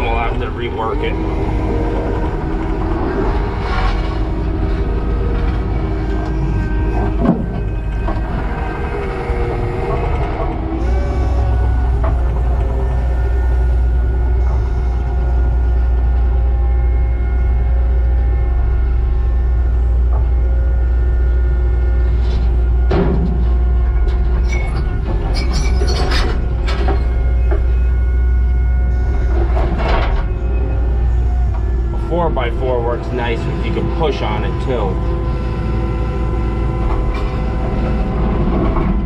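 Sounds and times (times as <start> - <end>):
diesel engine running under load: 0.0 - 39.0
steady whine: 0.0 - 39.0.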